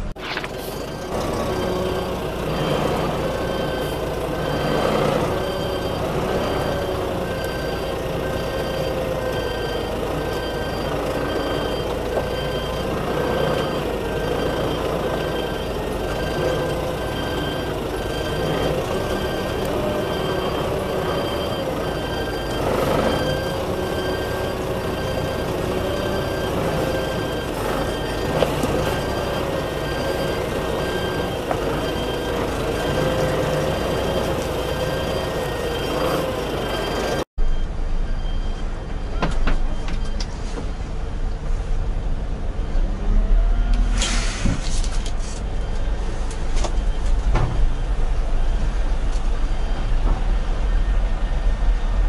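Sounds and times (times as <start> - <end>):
diesel engine running: 0.0 - 52.0
reversing alarm beeping: 0.2 - 40.6, 45.5 - 52.0.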